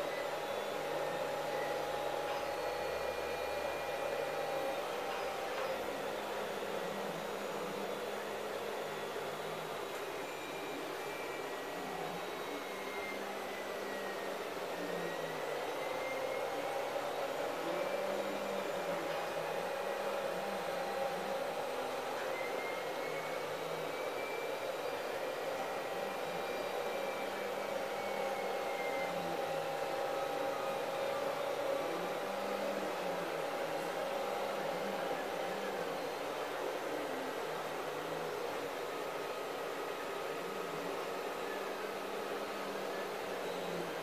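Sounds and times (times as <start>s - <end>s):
faint steady tones: 0.0s - 44.0s
machine whirring: 0.0s - 44.0s.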